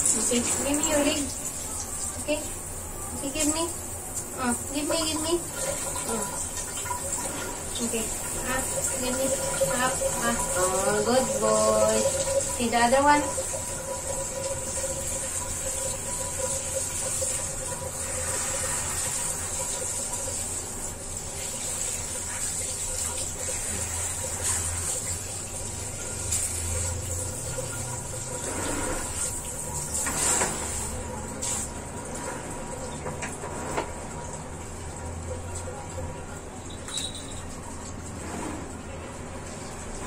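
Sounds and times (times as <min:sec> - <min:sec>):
shower spraying on tiled floor: 0:00.0 - 0:40.0.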